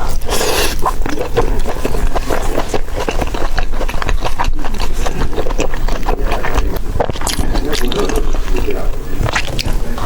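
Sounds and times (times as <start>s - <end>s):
wet chewing and mouth clicks: 0.0s - 10.0s.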